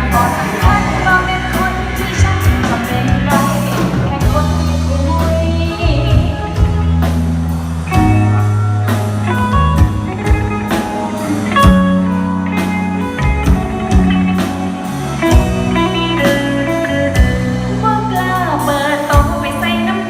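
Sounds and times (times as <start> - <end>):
drum kit beat: 0.0 - 20.0
guitar melody: 0.0 - 20.0
held bass notes: 0.0 - 20.0.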